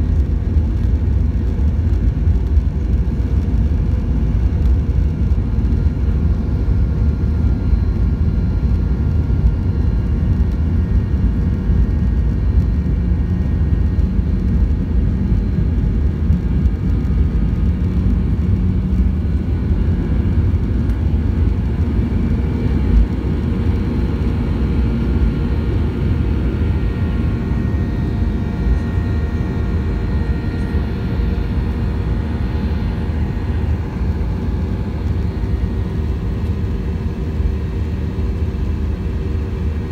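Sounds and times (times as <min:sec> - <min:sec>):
jet engines at takeoff thrust: 0:00.0 - 0:39.9
wheels rumbling on runway: 0:00.0 - 0:39.9.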